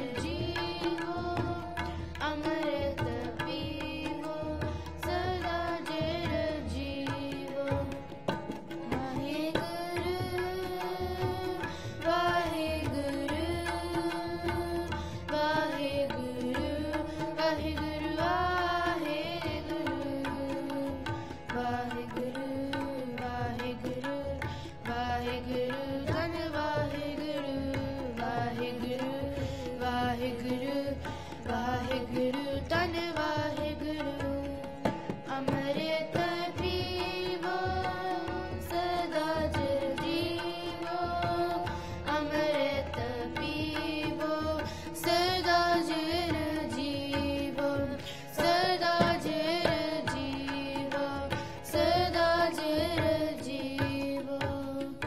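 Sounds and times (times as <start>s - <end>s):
harmonium chords: 0.0s - 55.0s
tabla strokes: 0.0s - 55.0s.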